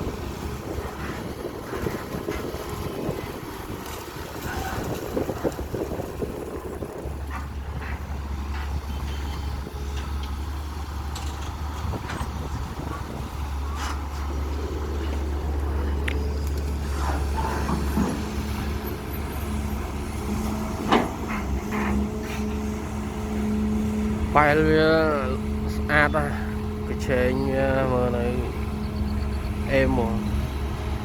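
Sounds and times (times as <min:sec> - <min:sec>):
excavator diesel engine: 0:00.0 - 0:31.0.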